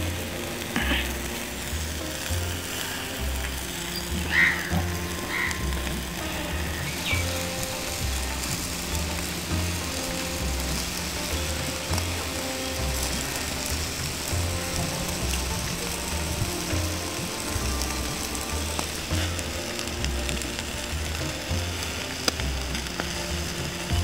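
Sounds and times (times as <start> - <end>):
background music with bass beat: 0.0 - 24.0
fish sizzling over charcoal: 0.0 - 24.0.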